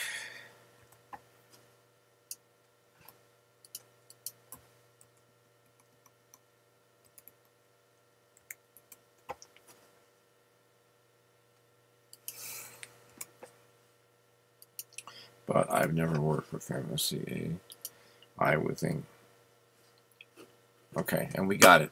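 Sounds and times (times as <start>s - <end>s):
faint electrical hum: 0.0s - 21.9s.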